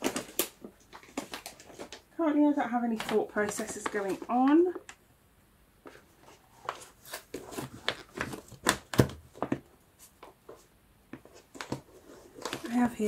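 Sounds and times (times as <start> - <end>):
paper rustling: 0.0 - 2.0, 2.6 - 4.7, 5.9 - 13.0.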